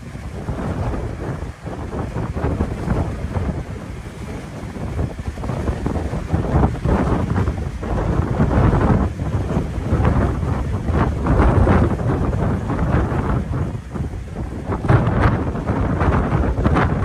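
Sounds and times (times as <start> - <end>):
storm wind gusting: 0.0 - 17.0
wind buffeting microphone: 0.0 - 17.0.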